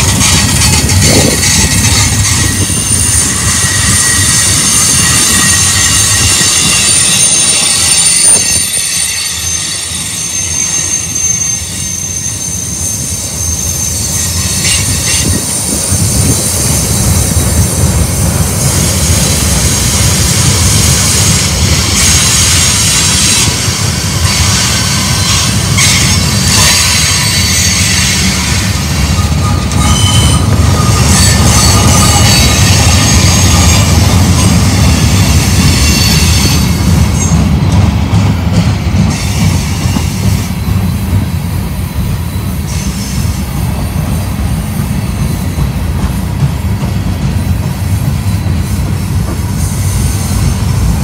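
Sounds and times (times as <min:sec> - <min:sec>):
high wheel squeal: 0:00.0 - 0:17.4, 0:18.3 - 0:51.0
freight cars rumbling on rails: 0:00.0 - 0:51.0.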